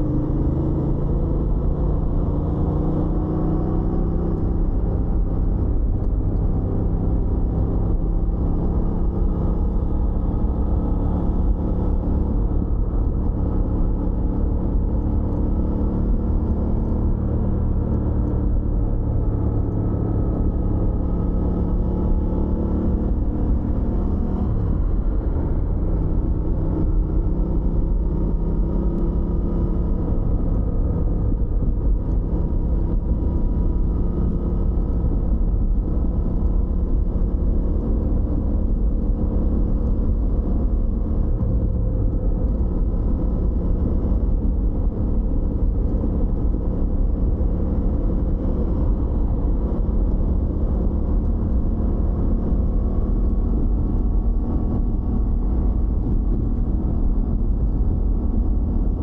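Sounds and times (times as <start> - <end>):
low wind rumble: 0.0 - 59.0
motorcycle engine running: 0.0 - 59.0.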